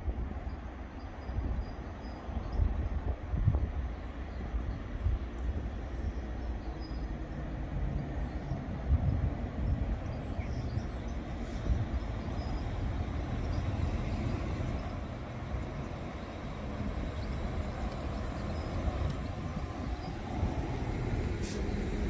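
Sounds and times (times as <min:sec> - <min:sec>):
train rumbling past: 0:03.6 - 0:22.0.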